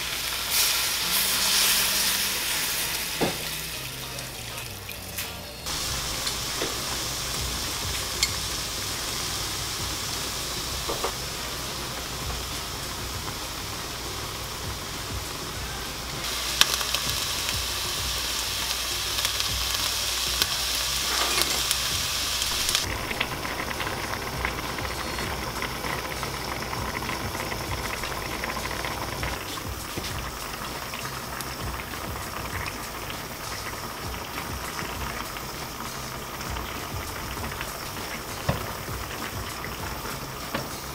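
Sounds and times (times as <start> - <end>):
stew boiling in a pot: 0.0 - 40.9.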